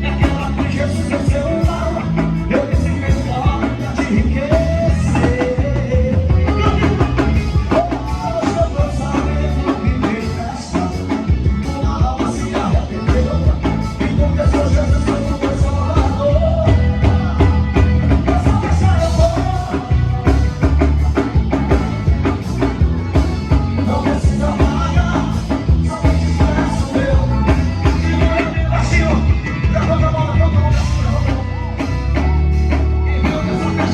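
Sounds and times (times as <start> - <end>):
drum kit beat: 0.0 - 33.9
live band playing: 0.0 - 33.9
person singing: 0.0 - 33.9.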